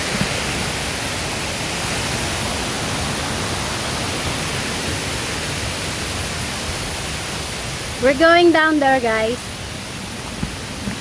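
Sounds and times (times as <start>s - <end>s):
fast-flowing mountain water: 0.0s - 11.0s.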